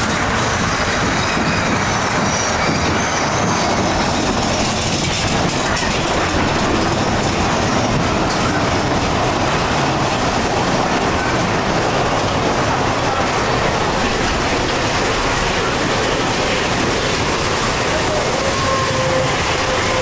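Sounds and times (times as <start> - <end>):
roller coaster rattling on track: 0.0 - 20.0.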